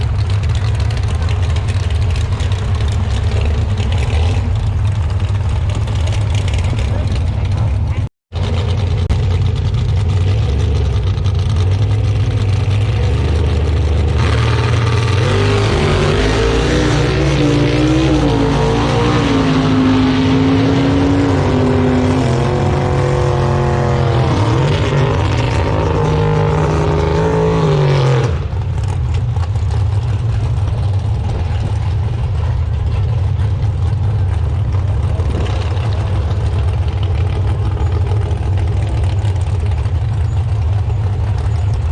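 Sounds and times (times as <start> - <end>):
engine revving: 0.0 - 29.1, 30.3 - 41.1
car engines running: 0.0 - 41.9.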